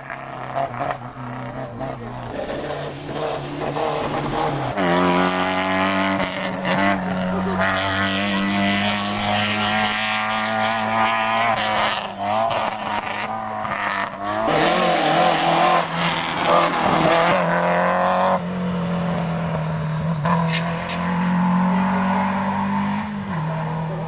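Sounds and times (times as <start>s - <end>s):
rally car engines accelerating: 0.0s - 24.0s.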